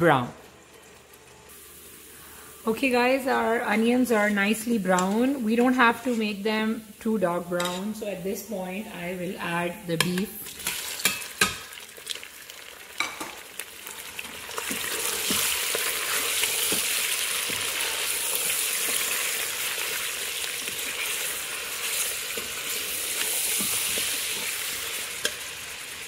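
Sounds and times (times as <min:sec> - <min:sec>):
meat sizzling in hot oil: 0:00.7 - 0:08.2, 0:10.4 - 0:26.0.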